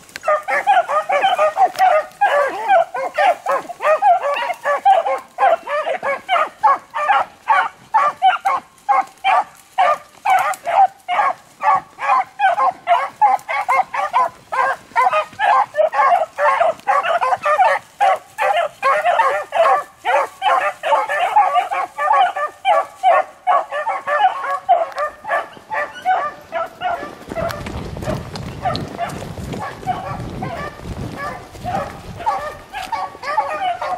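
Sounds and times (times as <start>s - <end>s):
beagles baying and barking: 0.0s - 33.9s.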